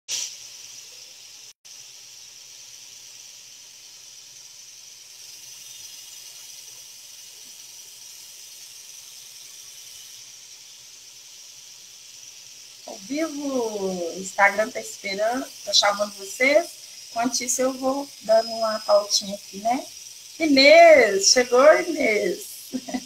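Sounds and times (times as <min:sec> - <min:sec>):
high-pitched hiss: 0:00.1 - 0:23.0.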